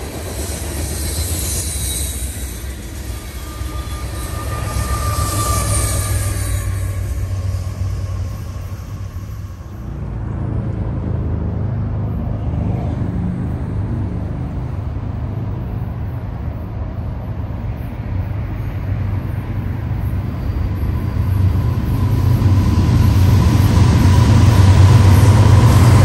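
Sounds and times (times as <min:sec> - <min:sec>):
high wheel squeal: 0:00.0 - 0:10.2, 0:14.8 - 0:26.0
freight train wheels rumbling on rails: 0:00.0 - 0:26.0
low road traffic hum: 0:02.2 - 0:26.0.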